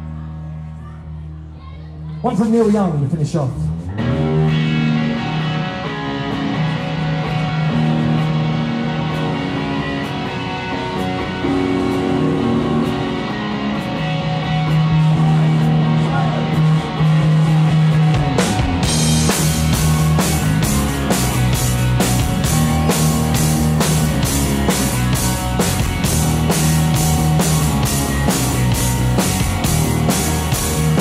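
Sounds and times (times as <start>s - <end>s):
bass guitar: 0.0s - 2.2s, 2.9s - 31.0s
rock band playing: 2.4s - 31.0s
electric guitar: 3.7s - 31.0s
drum kit: 4.0s - 31.0s.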